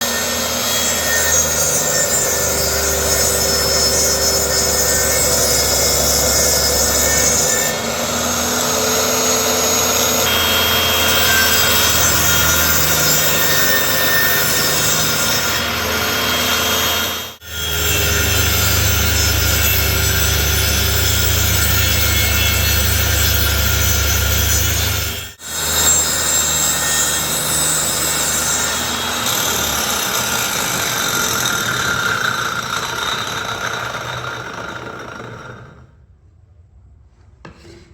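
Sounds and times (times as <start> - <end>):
power tools cutting wood: 0.0 - 36.0.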